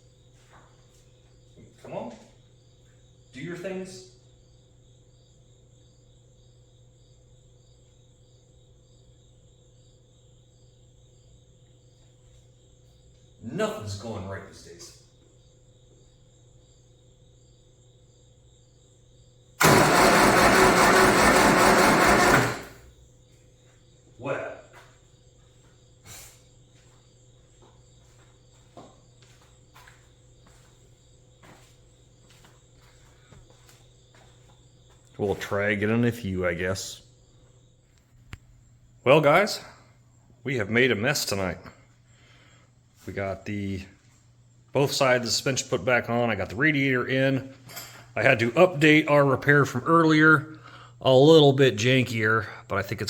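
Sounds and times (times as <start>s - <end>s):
crickets chirping: 0.0s - 19.6s, 22.8s - 53.0s.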